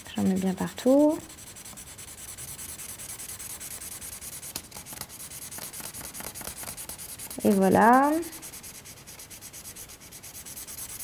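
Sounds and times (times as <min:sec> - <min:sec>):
marker scribbling on paper: 0:00.1 - 0:11.0.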